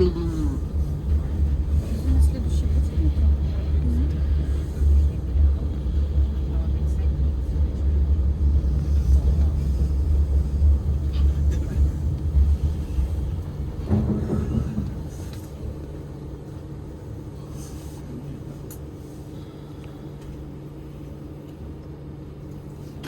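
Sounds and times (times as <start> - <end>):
low electrical hum: 0.0 - 23.0
train running gear rumble: 0.0 - 23.0.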